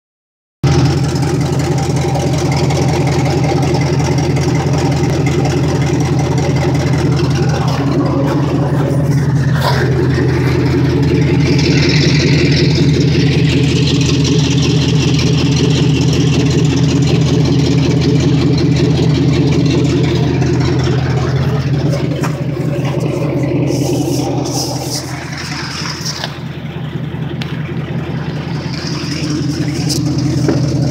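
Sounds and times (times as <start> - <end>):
pickup engine idling: 0.6 - 30.9.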